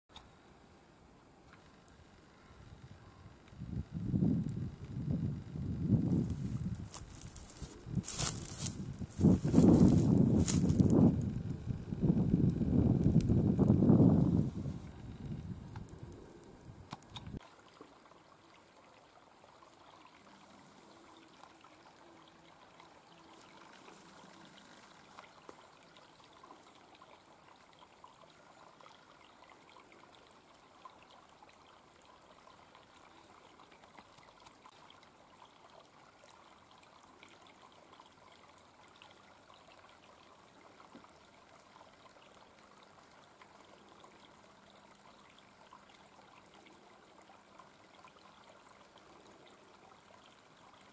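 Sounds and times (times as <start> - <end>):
brook trickling over pebbles: 1.4 - 50.9.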